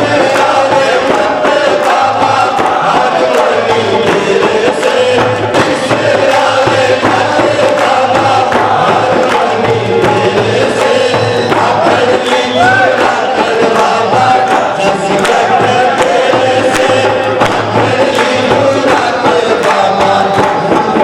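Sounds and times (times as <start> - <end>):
steady drum beat: 0.0 - 21.0
voices singing together: 0.0 - 21.0.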